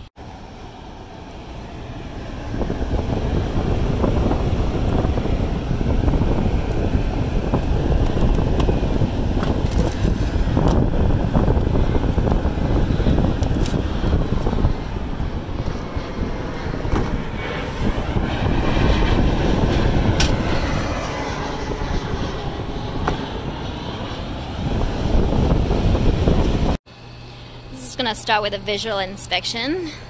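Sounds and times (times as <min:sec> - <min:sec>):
rooftop hvac units droning: 0:00.0 - 0:30.0.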